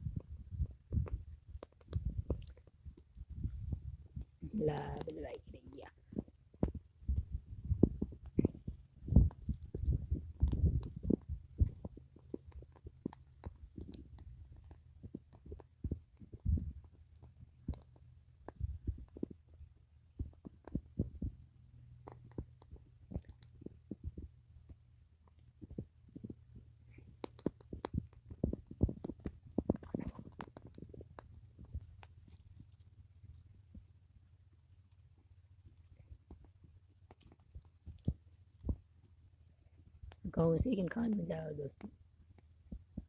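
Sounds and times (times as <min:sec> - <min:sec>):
fire crackling and popping: 0:00.0 - 0:43.0.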